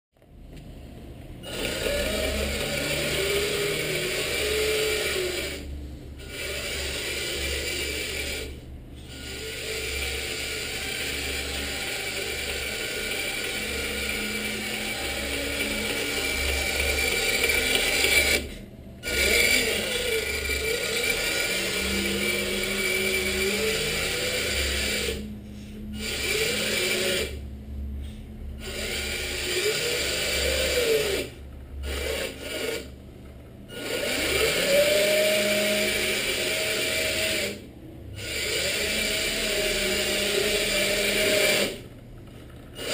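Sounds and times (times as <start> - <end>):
electric motor and gearbox whining: 1.4 - 33.0, 33.7 - 42.9.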